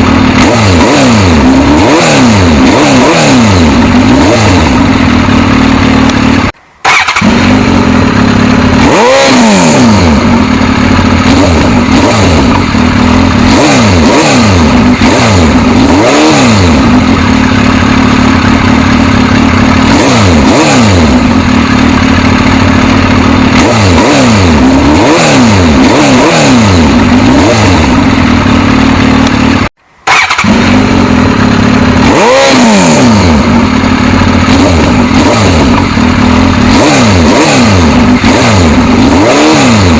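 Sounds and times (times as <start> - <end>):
motorcycle engine revving at idle: 0.0 - 39.9.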